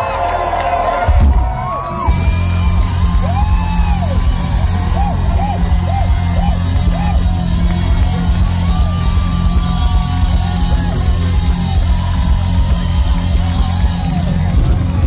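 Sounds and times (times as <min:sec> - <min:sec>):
heavy bass: 0:00.7 - 0:15.0
live funk rock band: 0:01.9 - 0:15.0.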